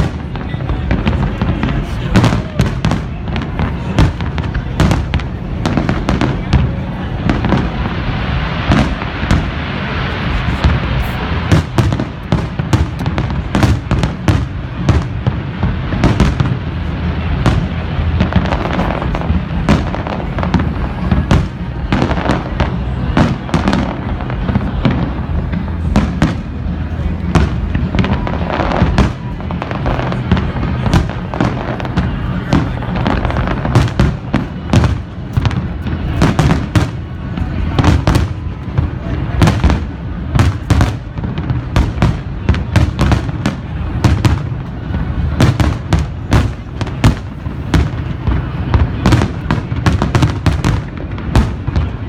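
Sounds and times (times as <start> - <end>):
fireworks bangs and crackle: 0.0 - 52.0
steady fireworks rumble: 0.0 - 52.0.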